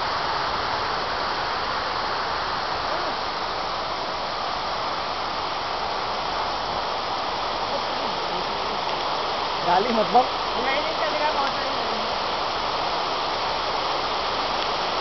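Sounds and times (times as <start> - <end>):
falling water rushing: 0.0 - 15.0.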